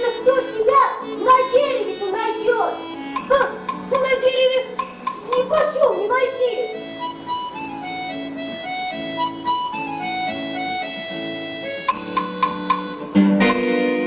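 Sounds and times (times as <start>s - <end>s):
bright high tones: 0.0s - 14.0s.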